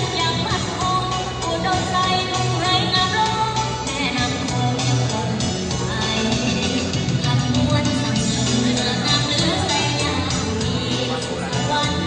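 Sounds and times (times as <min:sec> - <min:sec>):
upbeat pop dance song: 0:00.0 - 0:12.0.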